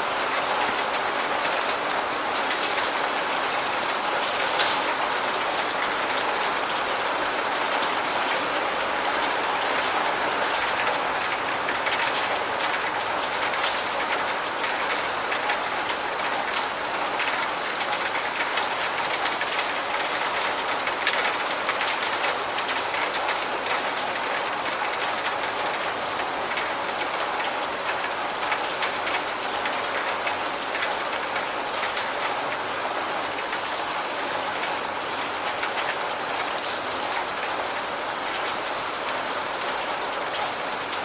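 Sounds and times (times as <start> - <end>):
steady rain: 0.0 - 41.0
close raindrops ticking: 0.2 - 41.0.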